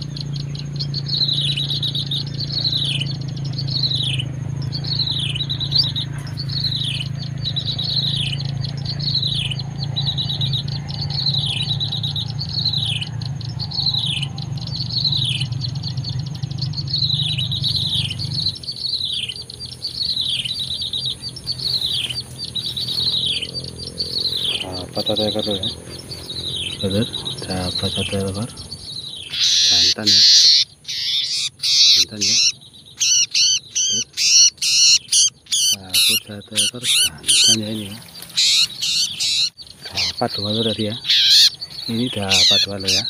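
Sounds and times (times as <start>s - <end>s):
small bird chirping: 0.0s - 43.0s.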